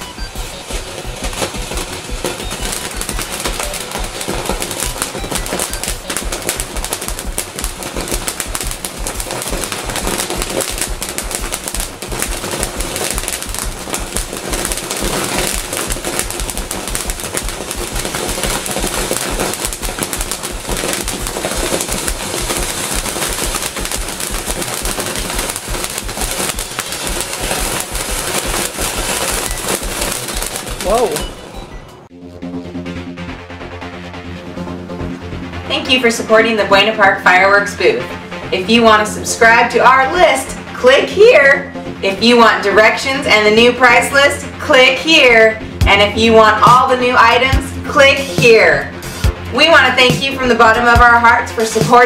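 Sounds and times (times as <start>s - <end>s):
firework rapid crackling pops: 0.0s - 31.5s, 38.9s - 52.0s
background music: 0.0s - 52.0s.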